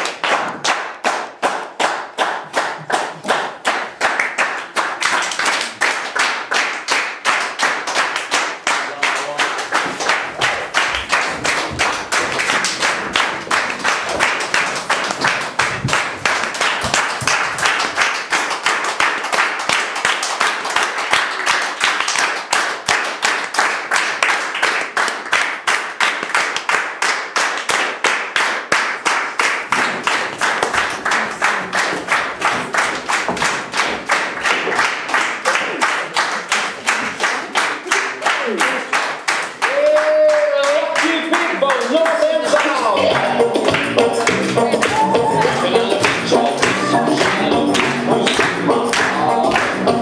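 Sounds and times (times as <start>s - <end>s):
audience clapping in unison: 0.0s - 50.0s.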